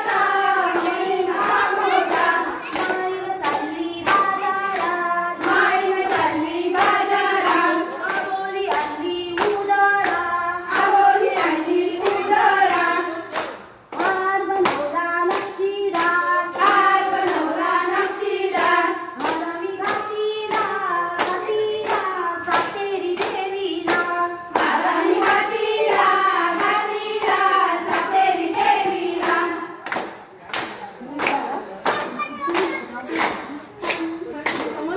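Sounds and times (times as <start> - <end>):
women singing folk song: 0.0 - 29.9
hand-clapping: 0.0 - 34.9.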